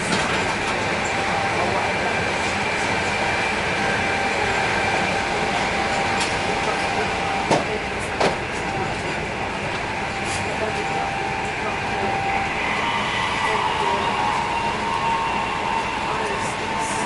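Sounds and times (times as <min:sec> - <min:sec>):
train running noise inside carriage: 0:00.0 - 0:17.0.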